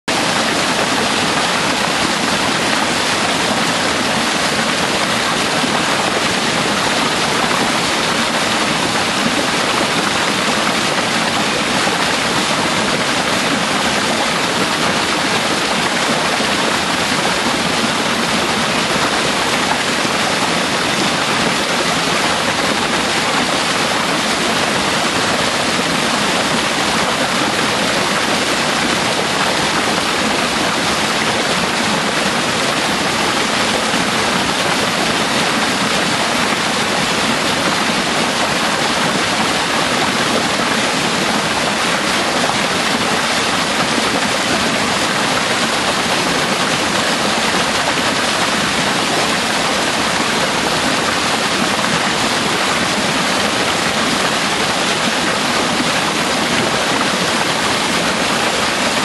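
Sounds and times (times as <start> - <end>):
waterfall rushing: 0.1 - 59.0.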